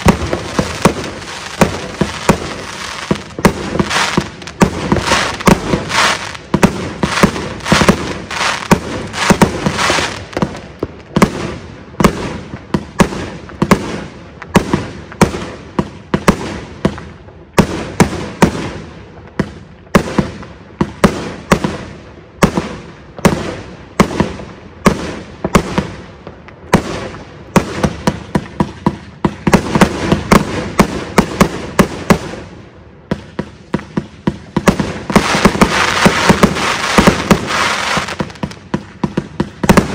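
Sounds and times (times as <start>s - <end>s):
fireworks cake firing bangs: 0.0s - 26.0s, 33.1s - 39.9s.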